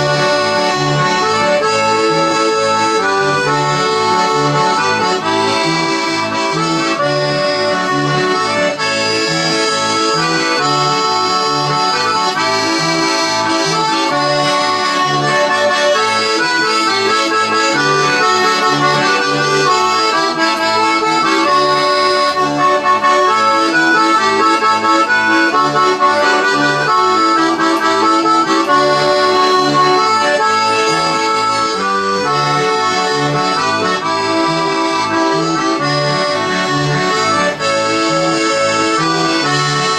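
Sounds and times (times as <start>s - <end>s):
accordion tune: 0.0s - 39.9s.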